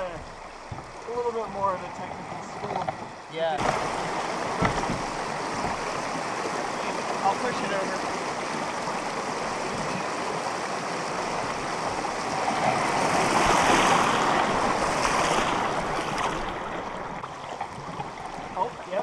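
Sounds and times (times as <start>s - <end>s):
creek rapids rushing: 0.0s - 19.0s.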